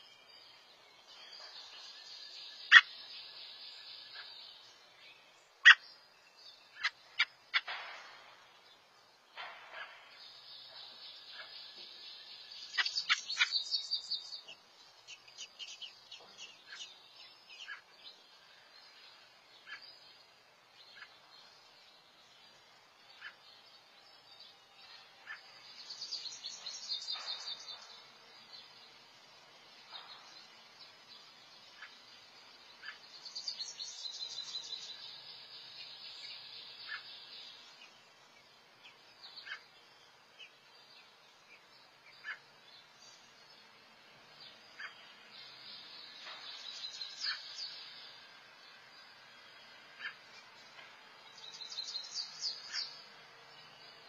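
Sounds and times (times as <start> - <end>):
birds twittering: 0.0 - 54.0.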